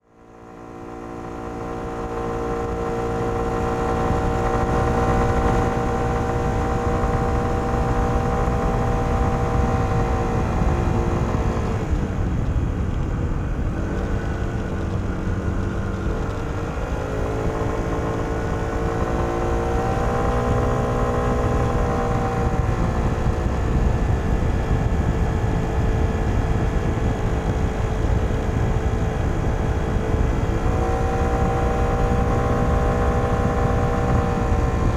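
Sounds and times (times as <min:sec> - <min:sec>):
road rumble: 0:00.0 - 0:34.9
wind: 0:00.0 - 0:34.9
scooter engine: 0:00.2 - 0:34.9.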